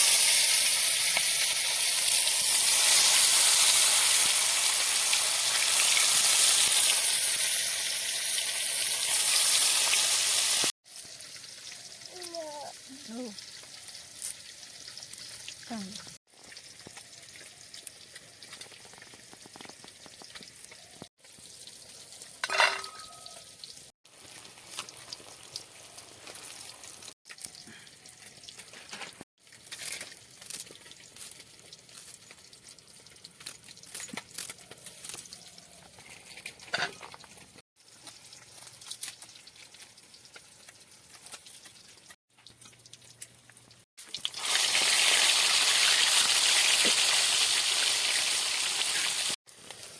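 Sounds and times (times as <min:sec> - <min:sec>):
oil sizzling in pot: 0:00.0 - 0:35.7, 0:36.8 - 0:49.9.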